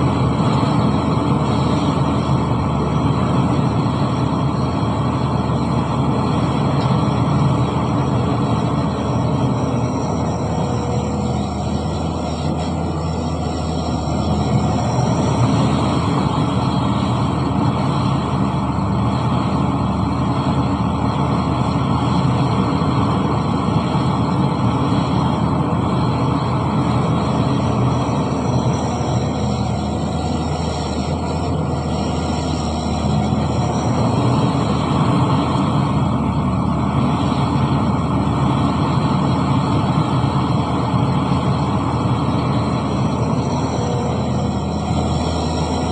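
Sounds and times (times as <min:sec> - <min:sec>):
heavy machinery diesel engine: 0:00.0 - 0:45.9.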